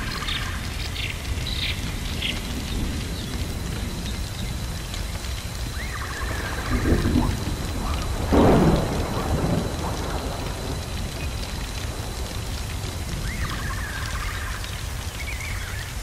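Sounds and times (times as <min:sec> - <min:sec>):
crackling flame: 0:00.0 - 0:16.0
rain hiss: 0:00.0 - 0:16.0
thunder rumbling: 0:00.0 - 0:16.0.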